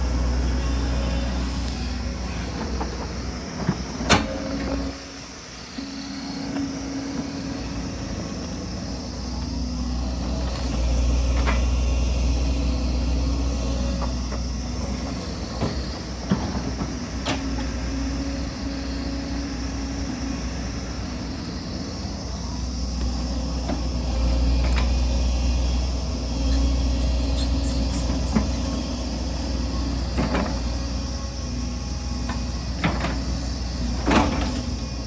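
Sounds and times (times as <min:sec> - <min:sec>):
excavator diesel engine rumble: 0:00.0 - 0:35.0.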